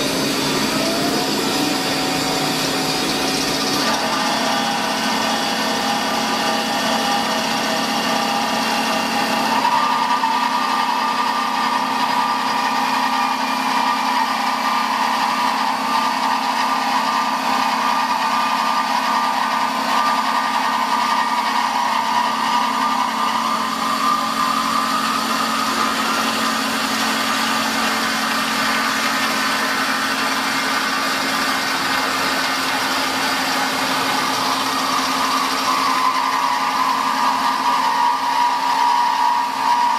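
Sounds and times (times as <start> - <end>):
band saw cutting metal: 0.0 - 39.9
steady machine whine: 0.0 - 39.9.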